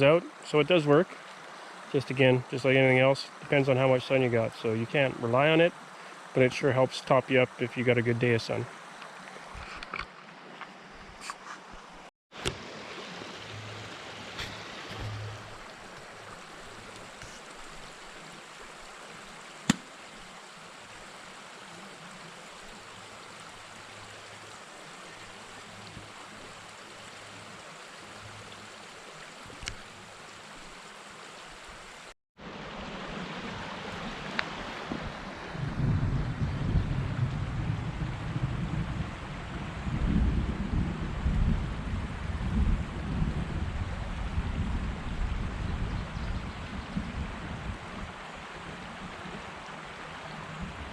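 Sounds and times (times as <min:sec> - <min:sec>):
flowing river water: 0:00.0 - 0:37.4, 0:45.0 - 0:50.9.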